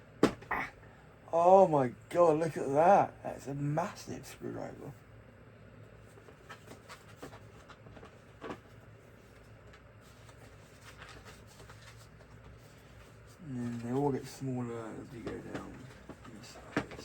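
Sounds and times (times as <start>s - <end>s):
low steady room hum: 0.0s - 17.0s.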